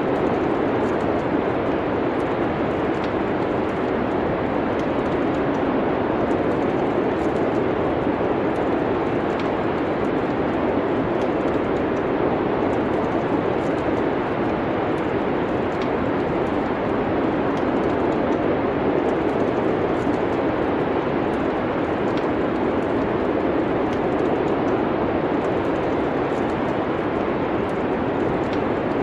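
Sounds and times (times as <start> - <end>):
steady rushing noise: 0.0 - 29.0
wood fire crackling: 0.1 - 29.0.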